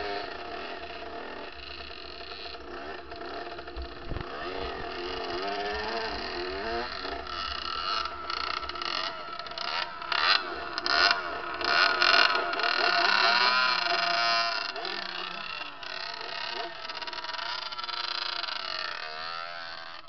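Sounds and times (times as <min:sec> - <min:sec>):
dirt bike engine revving: 0:00.0 - 0:20.0
second dirt bike: 0:00.0 - 0:20.0.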